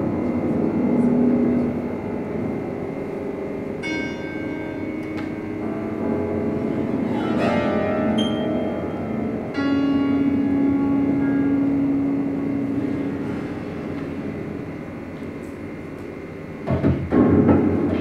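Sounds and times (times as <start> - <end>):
sweep of ringing piano strings: 0.0 - 16.6
low piano note ringing: 0.0 - 18.0.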